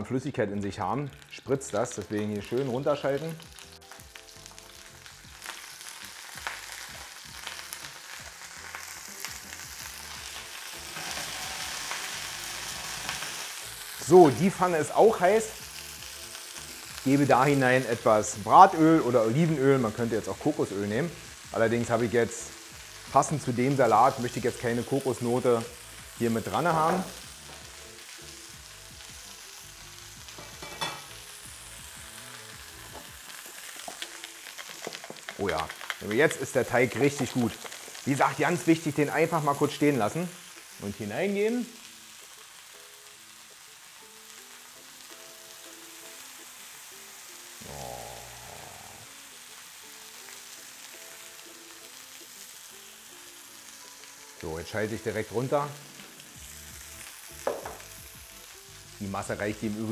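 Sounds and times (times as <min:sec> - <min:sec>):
food sizzling in oil: 0:00.6 - 0:59.9.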